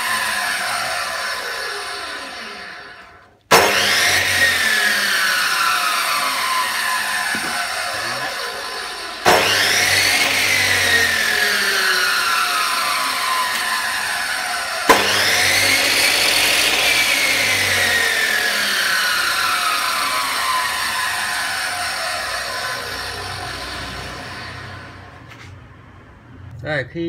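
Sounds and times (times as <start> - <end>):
cut-off saw motor whine: 0.0 - 25.4.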